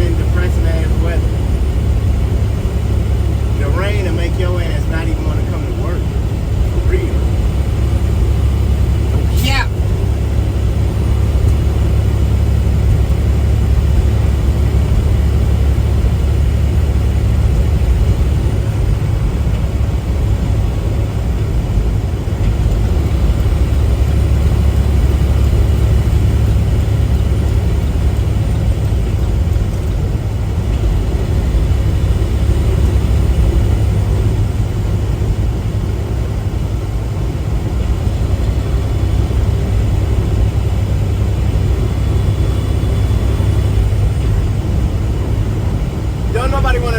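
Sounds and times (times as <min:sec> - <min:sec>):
road noise: 0:00.0 - 0:46.9
truck engine drone: 0:00.0 - 0:46.9.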